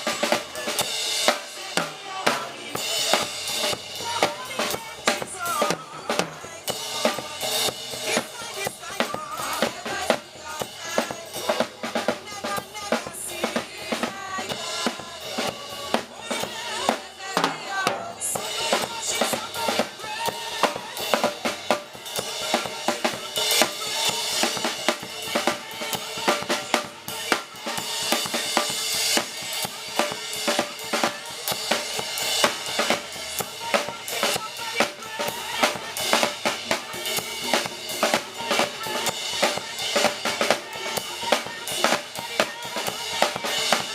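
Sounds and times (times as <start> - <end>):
drum kit beat: 0.0 - 43.9
live gospel band: 0.0 - 43.9.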